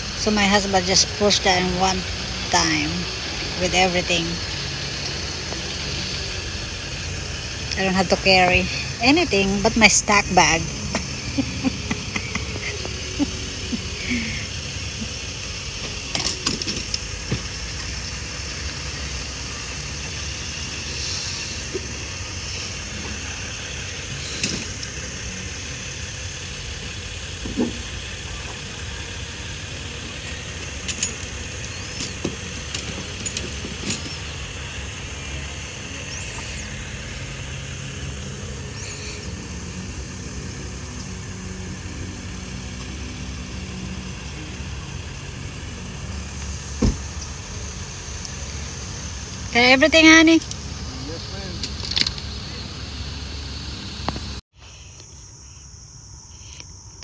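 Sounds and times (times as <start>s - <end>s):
low vehicle drone: 0.0s - 55.4s
steady high hiss: 0.0s - 57.0s.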